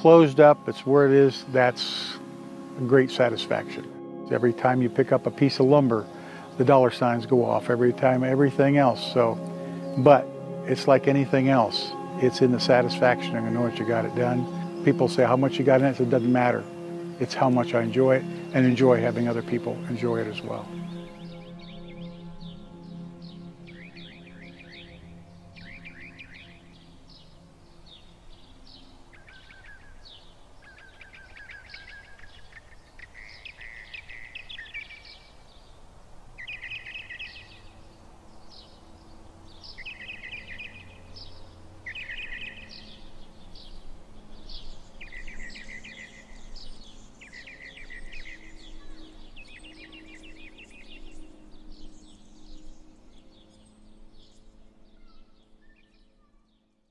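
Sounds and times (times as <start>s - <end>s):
birds chirping and trilling: 0.0s - 56.9s.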